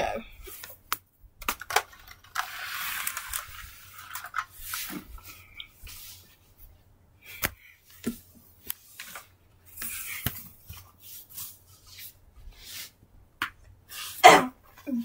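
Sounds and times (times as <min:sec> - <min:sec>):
clothing rustling: 0:02.4 - 0:15.0.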